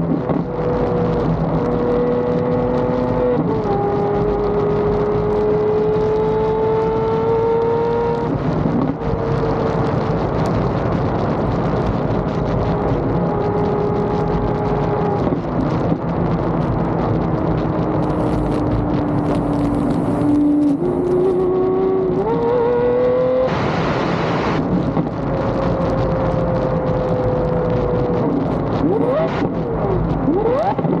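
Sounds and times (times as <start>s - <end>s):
car engine: 0.0s - 31.0s
road noise: 0.0s - 31.0s
rush of noise: 0.0s - 31.0s.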